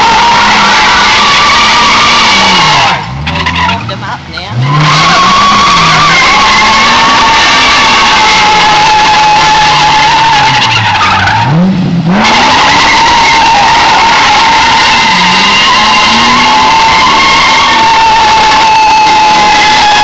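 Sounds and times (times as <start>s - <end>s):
car engine at high revs: 0.0s - 20.0s
car tyres squealing: 0.0s - 20.0s.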